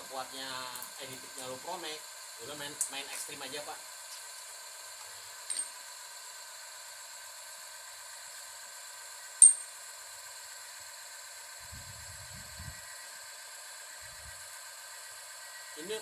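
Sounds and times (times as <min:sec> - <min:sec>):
test rig shaft hissing whine: 0:00.0 - 0:16.0.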